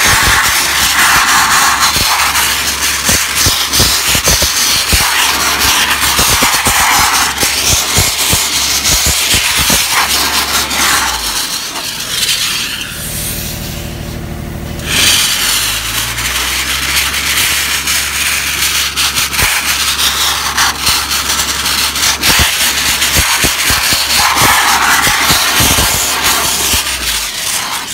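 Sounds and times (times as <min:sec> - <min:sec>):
blast nozzle hissing: 0:00.0 - 0:27.9
low engine drone: 0:00.0 - 0:27.9.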